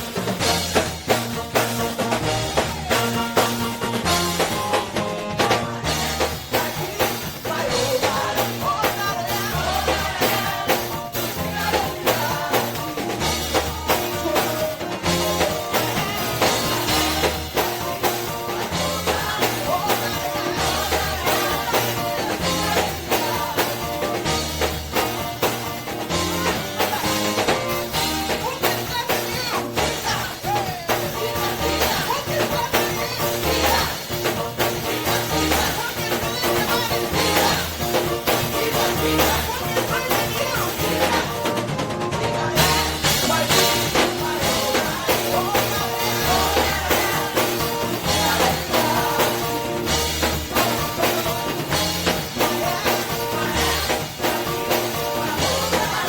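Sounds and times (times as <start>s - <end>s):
gospel band playing: 0.0s - 56.0s
singers leading a song: 1.0s - 56.0s.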